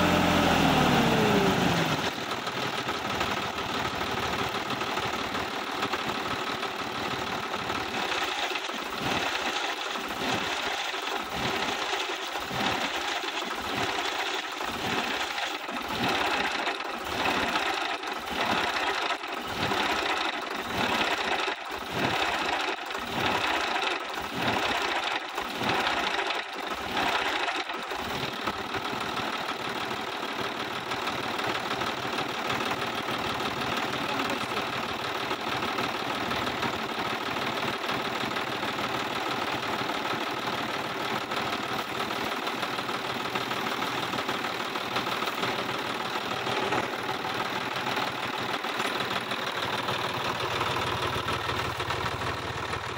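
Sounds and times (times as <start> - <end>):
tractor diesel engine clattering: 0.0 - 52.9.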